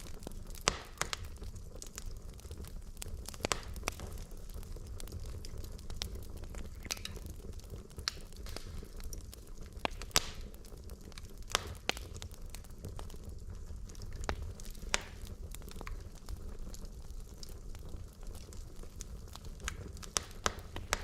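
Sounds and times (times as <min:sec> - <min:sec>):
burning logs crackling and popping: 0:00.0 - 0:21.0
low rumble of flame: 0:00.0 - 0:21.0.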